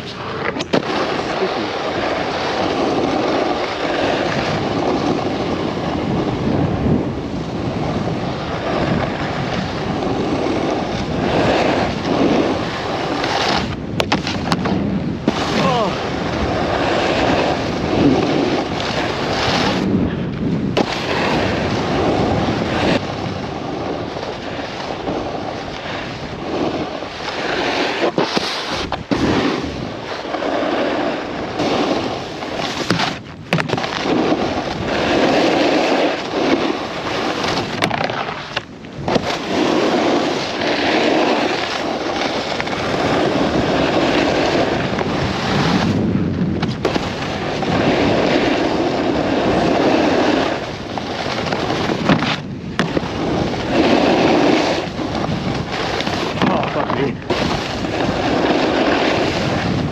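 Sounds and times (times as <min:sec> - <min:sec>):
snowboard scraping over hard snow: 0:00.0 - 0:59.9
wind rushing over camera: 0:00.0 - 0:59.9.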